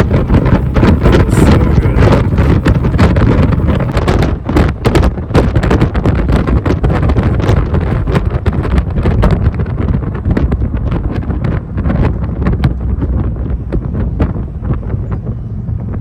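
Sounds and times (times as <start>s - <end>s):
truck exhaust roaring: 0.0s - 16.0s
wind buffeting microphone: 0.0s - 16.0s.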